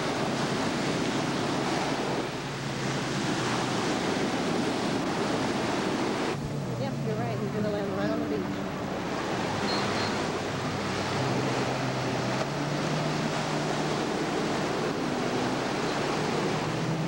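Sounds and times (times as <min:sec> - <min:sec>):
motorboat engine hum: 0:00.0 - 0:17.0
surf washing on beach: 0:00.0 - 0:17.0
wind buffeting microphone: 0:00.0 - 0:17.0.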